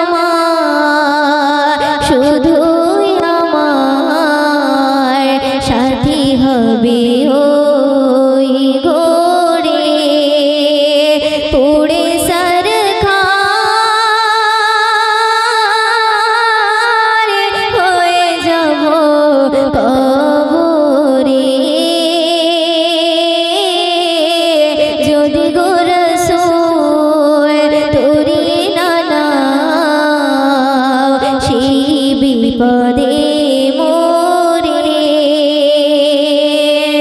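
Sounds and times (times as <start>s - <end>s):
woman singing into microphone: 0.0s - 37.0s.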